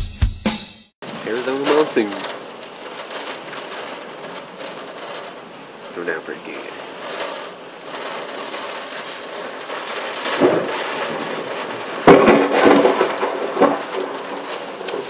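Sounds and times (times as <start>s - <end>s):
heavy rain: 1.0s - 15.0s
strong gusting wind: 1.0s - 15.0s.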